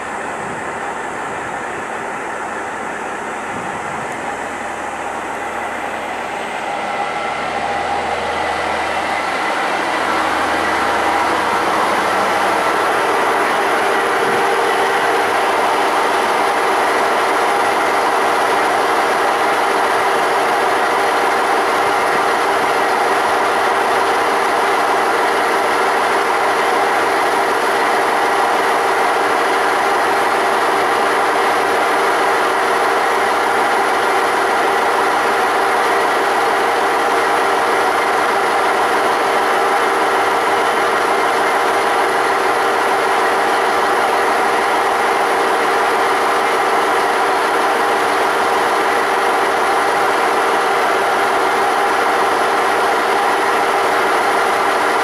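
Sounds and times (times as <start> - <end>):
diesel railcar engine idling: 0.0 - 55.0.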